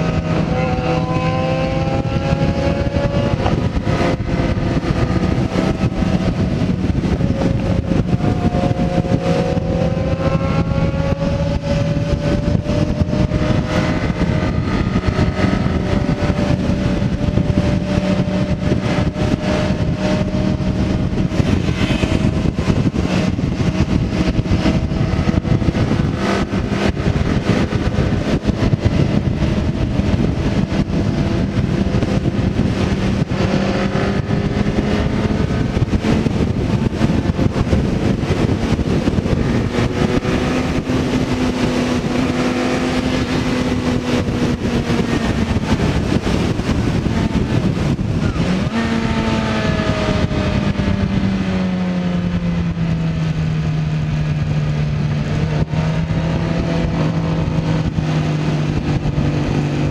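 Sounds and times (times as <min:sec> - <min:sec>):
motorcycle engine running: 0:00.0 - 0:59.9
wind noise: 0:00.0 - 0:59.9.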